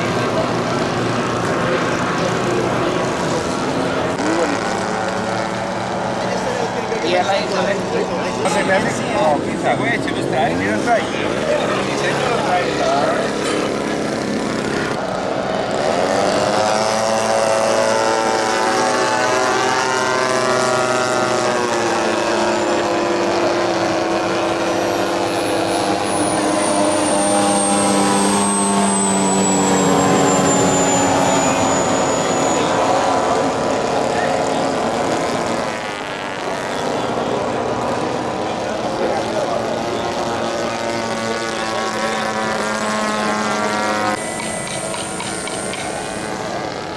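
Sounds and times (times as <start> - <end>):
model plane propeller engines droning: 0.0 - 46.9.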